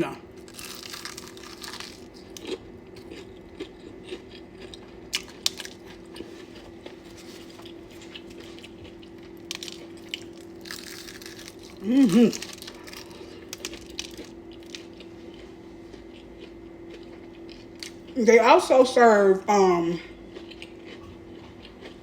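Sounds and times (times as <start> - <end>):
steady low hum: 0.0 - 22.0
person chewing crispy food: 0.4 - 18.2, 20.0 - 22.0.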